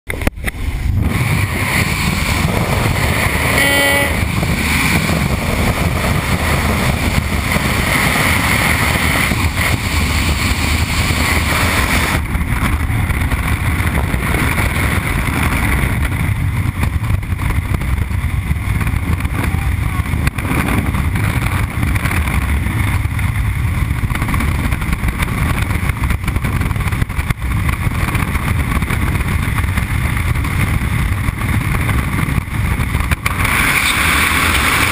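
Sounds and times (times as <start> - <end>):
wind rush on microphone: 0.1 - 34.9.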